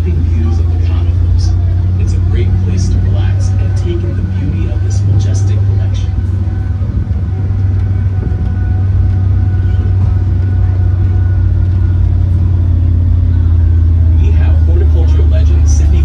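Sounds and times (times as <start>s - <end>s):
tram rumbling on the move: 0.0s - 16.0s.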